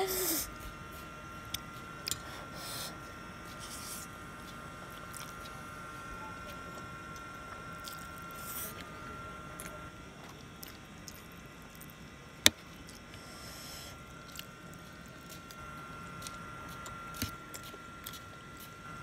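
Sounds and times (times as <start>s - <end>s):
person chewing noodles: 0.1s - 5.6s, 7.8s - 8.8s, 9.6s - 18.8s.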